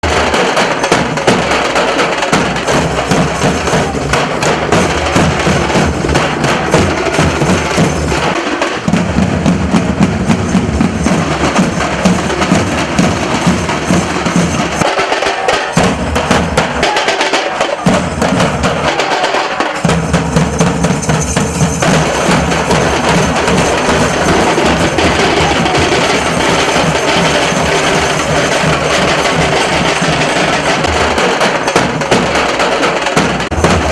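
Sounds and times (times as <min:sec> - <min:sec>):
dhol drums playing driving rhythm: 0:00.0 - 0:33.9.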